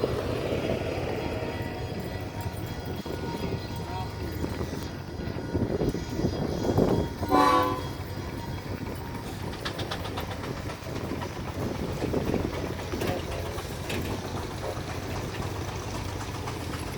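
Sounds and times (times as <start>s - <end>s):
low rumble of engines: 0.0s - 16.9s.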